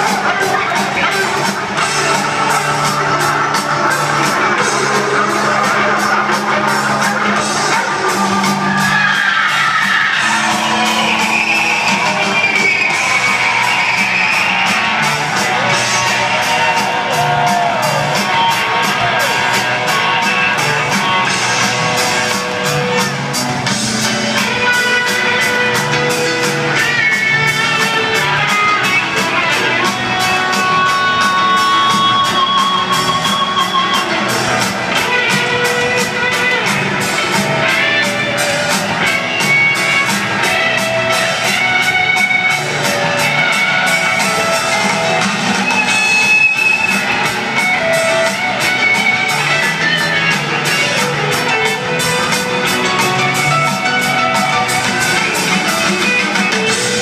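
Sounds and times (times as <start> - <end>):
electric guitar lead: 0.0 - 57.0
rock band playing live: 0.0 - 57.0.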